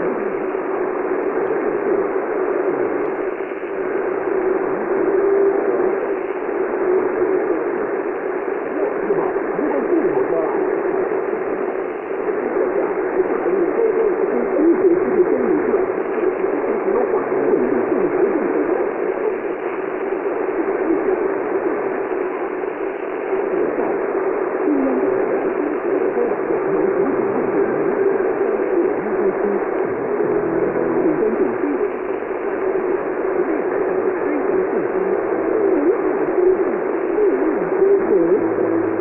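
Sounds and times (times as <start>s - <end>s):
faint voice through radio noise: 0.0s - 39.0s
radio static and hiss: 0.0s - 39.0s.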